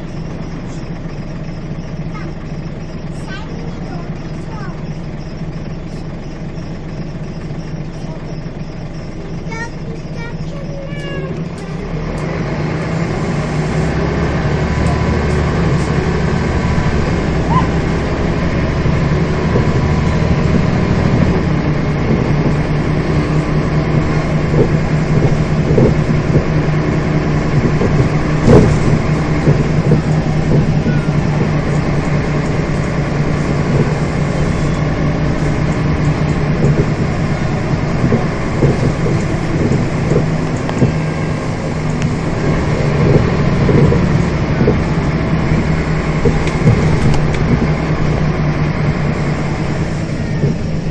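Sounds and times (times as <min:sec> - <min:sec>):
bus body rattles: 0:00.0 - 0:50.9
bus diesel engine running: 0:00.0 - 0:50.9.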